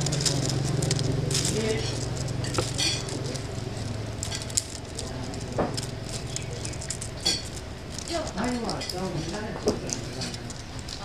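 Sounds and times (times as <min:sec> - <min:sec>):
faint voices: 0:00.0 - 0:11.0
steady low hum: 0:00.0 - 0:11.0.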